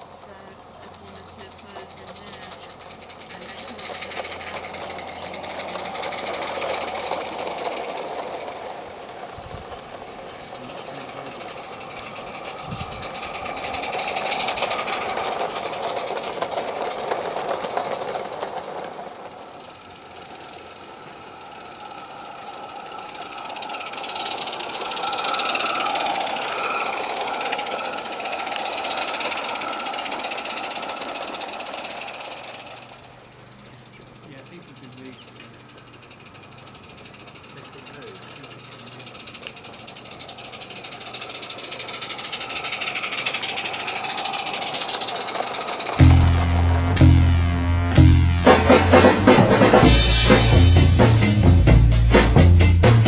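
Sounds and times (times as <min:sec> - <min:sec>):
model train wheels clattering: 0:00.0 - 0:46.9.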